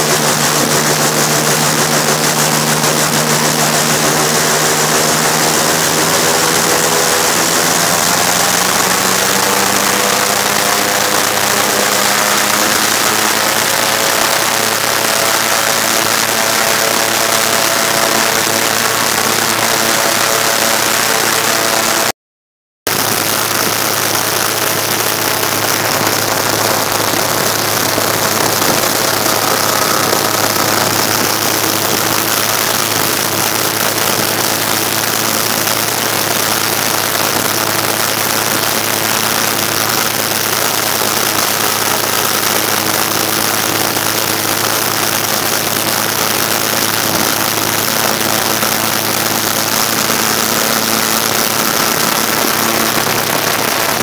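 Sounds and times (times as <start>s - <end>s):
airboat engine and propeller drone: 0.0s - 22.1s, 22.9s - 54.0s.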